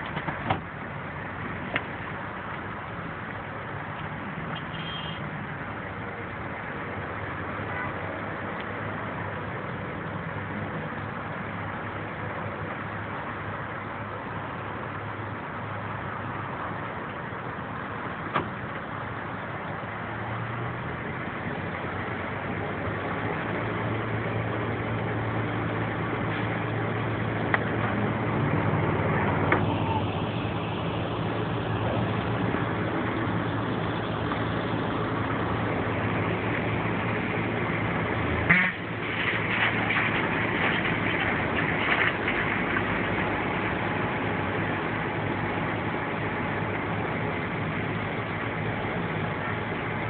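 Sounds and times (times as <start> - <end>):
background noise haze: 0.0 - 50.0
steady engine hum: 0.0 - 50.0.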